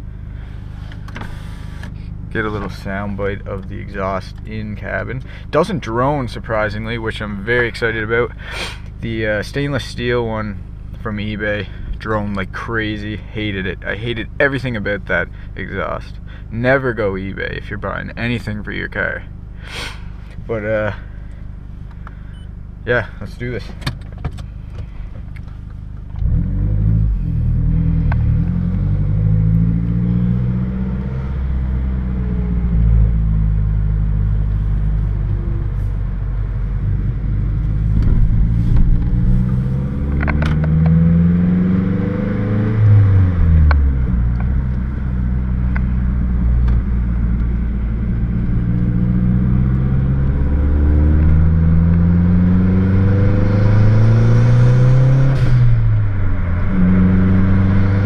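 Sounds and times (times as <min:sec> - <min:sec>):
car engine and exhaust accelerating: 0:00.0 - 0:58.0.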